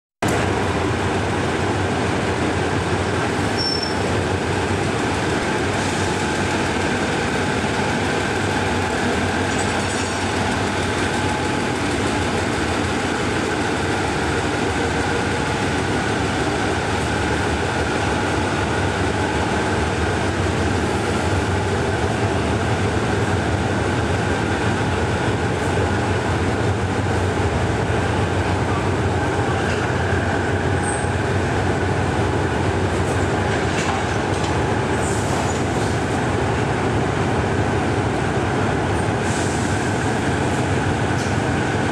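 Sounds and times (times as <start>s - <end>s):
diesel locomotive engine running: 0.2s - 41.9s.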